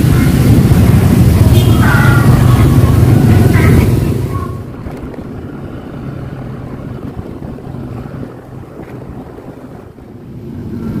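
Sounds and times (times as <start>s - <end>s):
low engine hum: 0.0s - 11.0s
wind on microphone: 0.0s - 11.0s.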